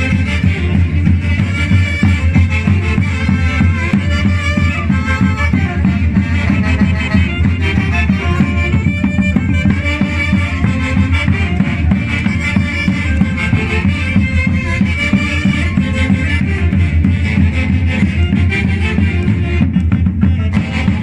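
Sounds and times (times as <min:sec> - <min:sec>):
band music with pulsing bass: 0:00.0 - 0:21.0.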